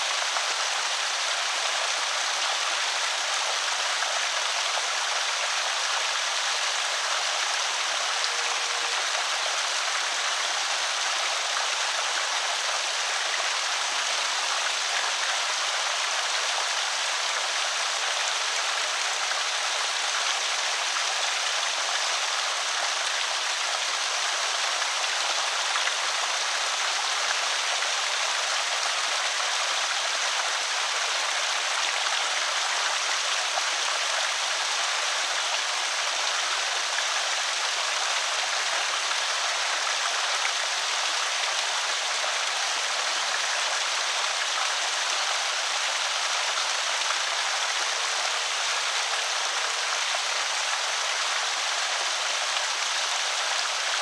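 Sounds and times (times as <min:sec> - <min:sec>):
water running over spillway: 0:00.0 - 0:54.0.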